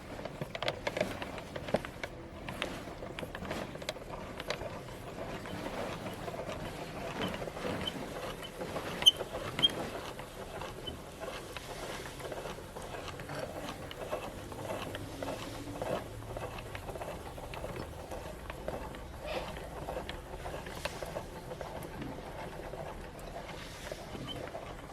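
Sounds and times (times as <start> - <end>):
meat grinder crushing cake: 0.0 - 23.5.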